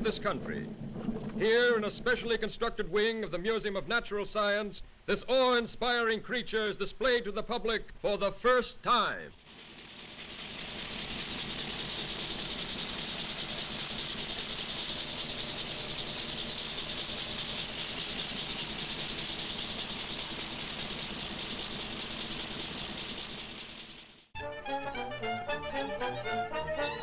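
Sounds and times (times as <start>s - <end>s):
refrigeration machinery humming: 0.0s - 5.0s, 9.1s - 27.0s.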